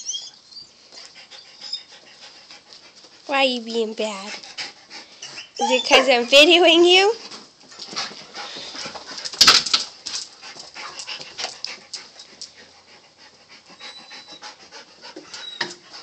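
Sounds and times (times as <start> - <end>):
dogs panting: 0.9 - 16.0.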